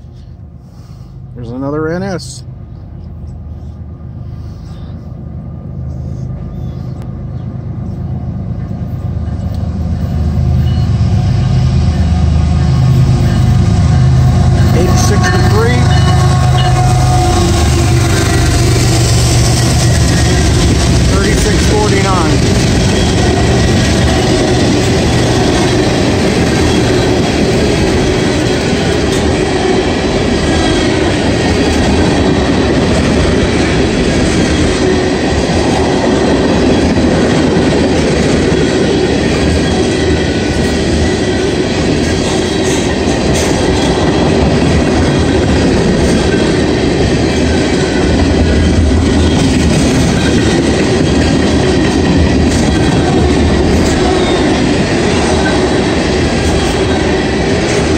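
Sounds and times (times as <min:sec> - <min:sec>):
train wheels running on rails: 0:00.0 - 0:57.9.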